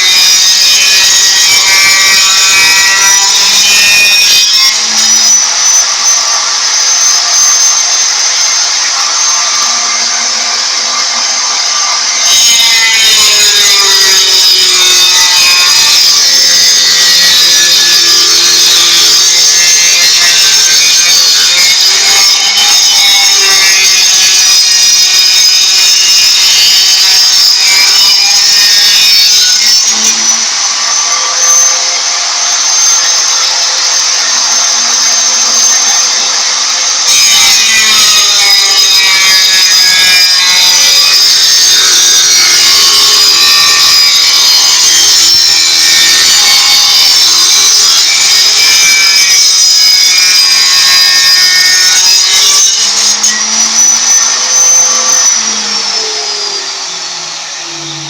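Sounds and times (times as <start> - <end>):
tile cutter blade whining: 0.0 - 58.0.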